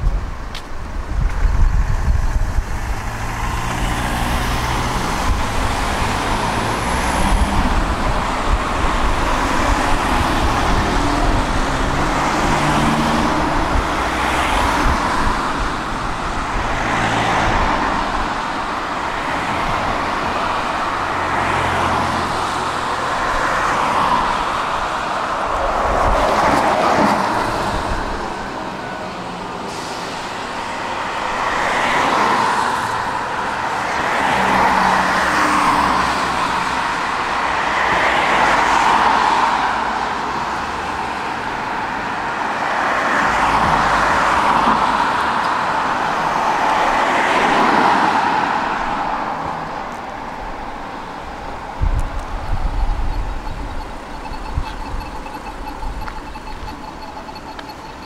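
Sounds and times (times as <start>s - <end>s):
tram wheels rumbling on rails: 0.0s - 39.0s, 50.4s - 58.0s.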